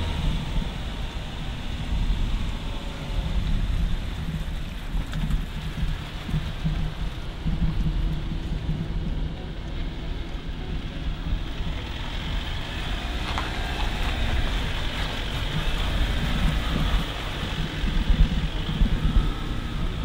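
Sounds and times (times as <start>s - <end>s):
low engine hum: 0.0s - 20.0s
tyre and road noise: 0.0s - 20.0s.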